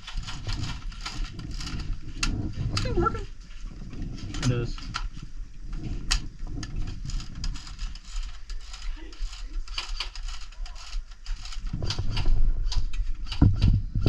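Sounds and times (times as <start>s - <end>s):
low rumble of handling noise: 0.0s - 14.0s.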